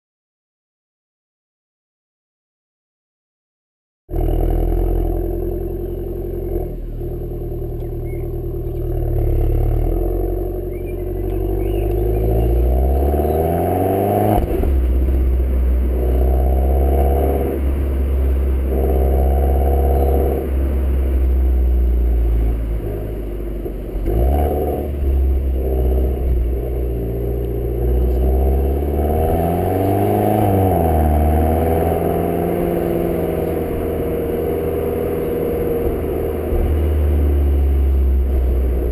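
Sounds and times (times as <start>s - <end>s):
car engine revving: 4.1s - 38.9s.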